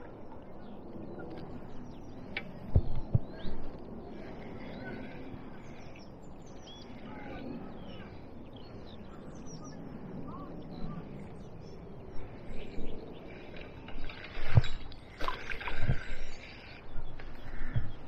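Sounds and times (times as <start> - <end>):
songbirds chirping: 0.0 - 18.0
steady low rumble: 0.0 - 18.0.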